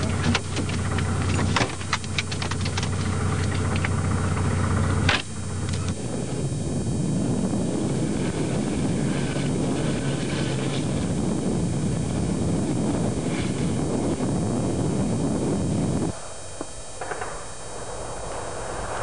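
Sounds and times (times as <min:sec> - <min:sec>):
tracked vehicle rumbling: 0:00.0 - 0:19.0
wind on microphone: 0:00.0 - 0:19.0.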